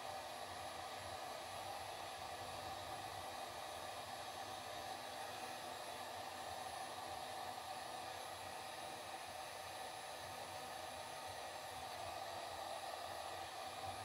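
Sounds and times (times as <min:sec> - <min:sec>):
steady whirring hiss: 0:00.0 - 0:14.0.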